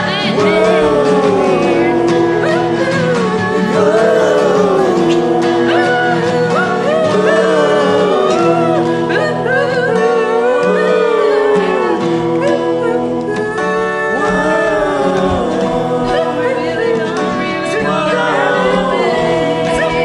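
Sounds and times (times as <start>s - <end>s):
acoustic guitar: 0.0s - 20.0s
people singing: 0.0s - 20.0s.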